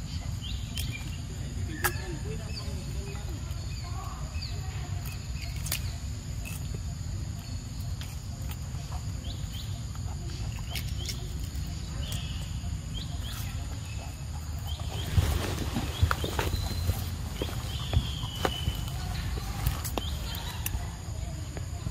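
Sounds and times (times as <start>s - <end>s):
monkeys chewing fruit: 0.0s - 21.9s
steady low rumble: 0.0s - 21.9s.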